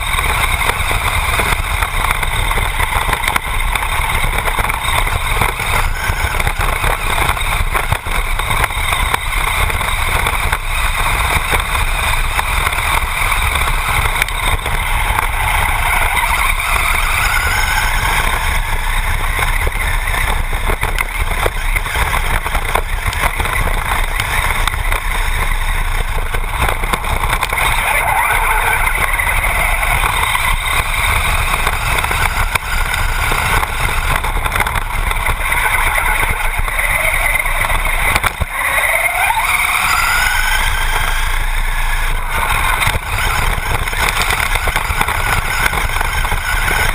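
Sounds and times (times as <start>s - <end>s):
electric motor whine: 0.0s - 46.9s
rattling drivetrain and tyre noise: 0.0s - 46.9s.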